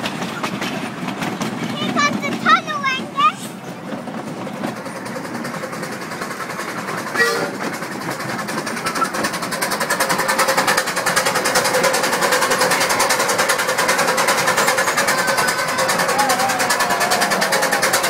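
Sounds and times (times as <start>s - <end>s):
miniature steam train clattering: 0.0s - 18.0s.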